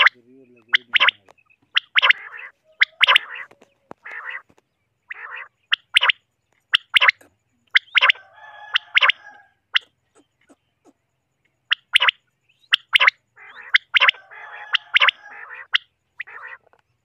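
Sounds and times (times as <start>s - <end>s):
quail calling: 0.0s - 11.0s, 11.6s - 17.0s.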